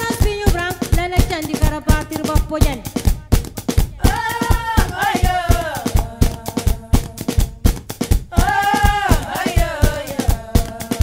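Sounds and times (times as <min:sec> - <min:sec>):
cloth pads being beaten: 0:00.0 - 0:11.0.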